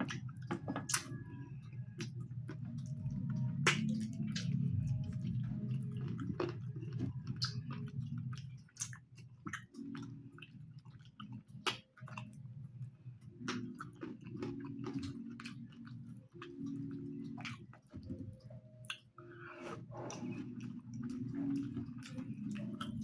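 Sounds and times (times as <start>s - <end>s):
person chewing food: 0.0s - 12.5s, 13.2s - 23.0s.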